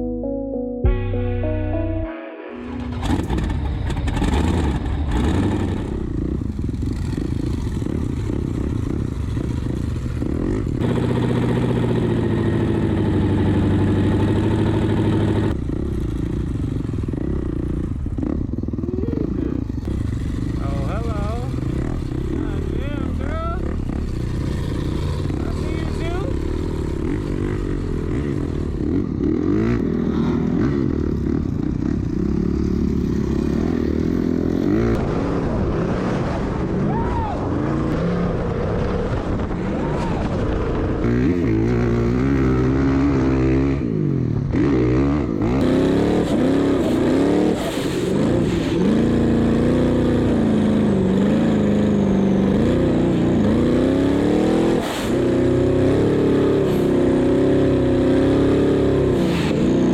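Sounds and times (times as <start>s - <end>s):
off-road vehicle engine revving: 2.8s - 59.9s.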